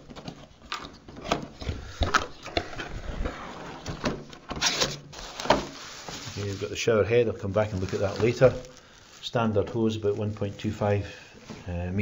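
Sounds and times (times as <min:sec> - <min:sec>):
cardboard rustling: 0:00.0 - 0:10.9.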